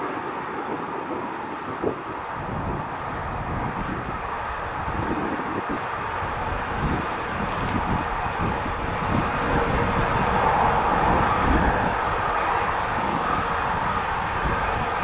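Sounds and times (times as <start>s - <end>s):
aircraft engines running: 0.0s - 15.0s
wind buffeting microphone: 0.0s - 15.0s.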